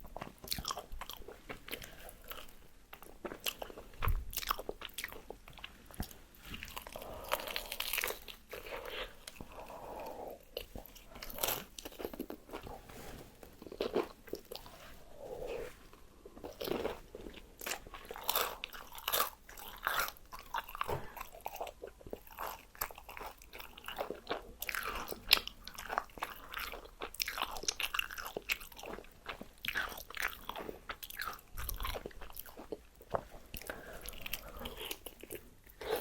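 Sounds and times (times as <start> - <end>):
chewing: 0.0 - 12.9, 15.4 - 36.0.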